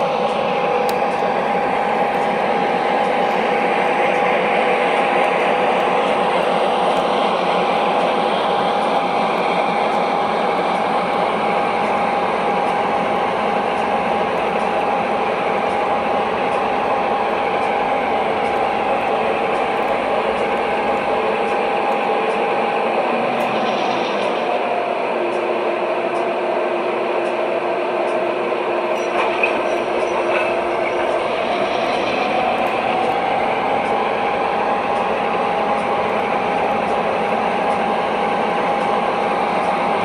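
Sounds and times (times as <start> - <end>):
model locomotive rumble: 0.0 - 25.1, 28.8 - 40.0
model locomotive whine: 0.0 - 40.0.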